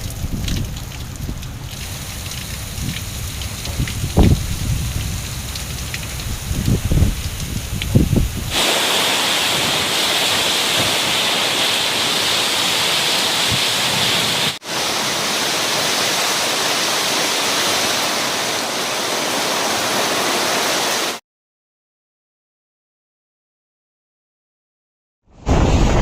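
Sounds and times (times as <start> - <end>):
rushing water: 0.0 - 21.2.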